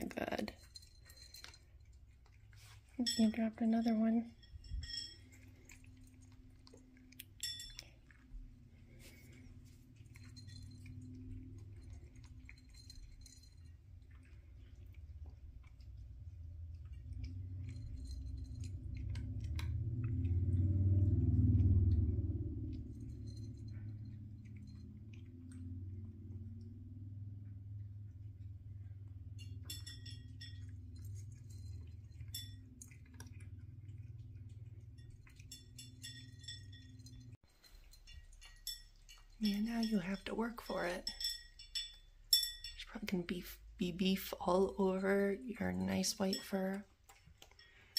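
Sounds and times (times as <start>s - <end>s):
kibble clinking against bowl: 0.0s - 20.5s, 22.7s - 25.9s, 28.4s - 47.9s
low room hum: 0.0s - 47.9s.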